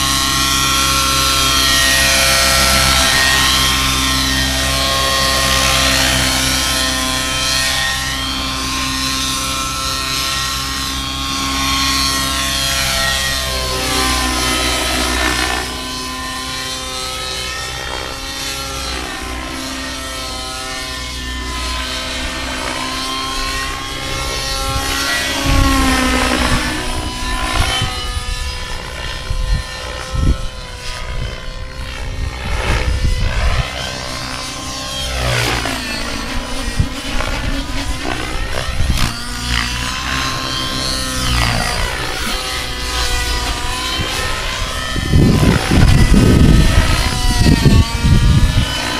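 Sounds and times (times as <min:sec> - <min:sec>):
rc helicopter engine and rotor whine: 0:00.0 - 0:48.9.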